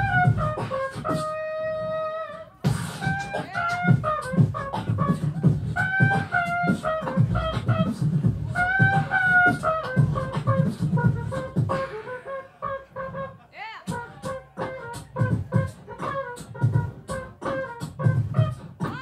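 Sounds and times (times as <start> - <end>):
beatboxing into microphones: 0.0 - 19.0.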